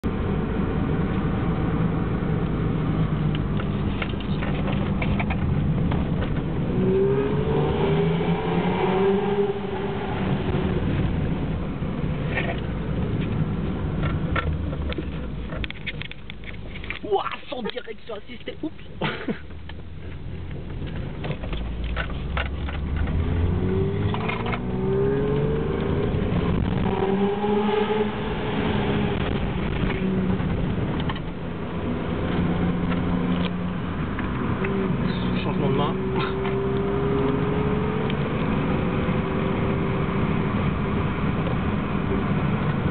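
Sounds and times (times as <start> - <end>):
car engine running while driving: 0.0 - 42.9.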